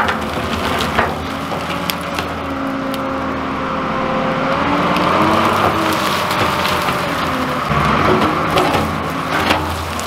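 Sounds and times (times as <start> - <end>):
branches snapping: 0.0 - 3.3, 4.7 - 10.0
loader engine revving: 0.0 - 10.0.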